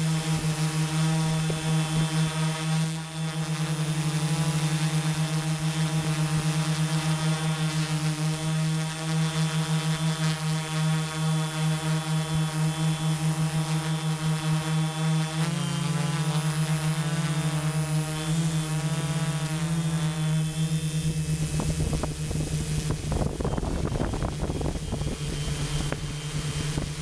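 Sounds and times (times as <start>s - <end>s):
drone motors humming: 0.0s - 27.0s.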